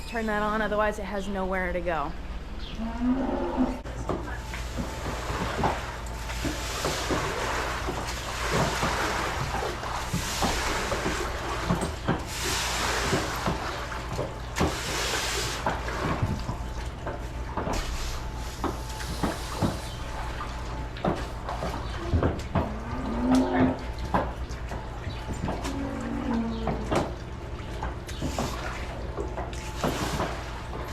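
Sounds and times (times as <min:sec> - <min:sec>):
low machine hum: 0:00.0 - 0:30.9
broom swishing water: 0:04.3 - 0:30.9.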